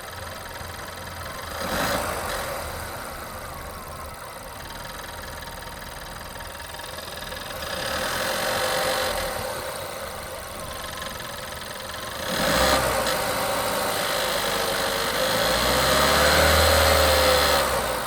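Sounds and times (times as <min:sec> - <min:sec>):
petrol engine running: 0:00.0 - 0:15.2.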